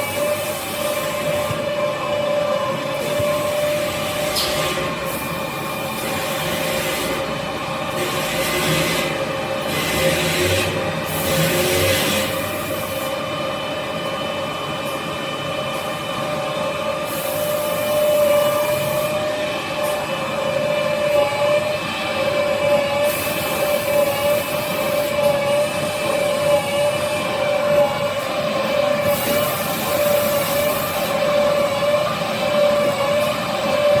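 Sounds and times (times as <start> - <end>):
machine mechanical whine: 0.0 - 34.0.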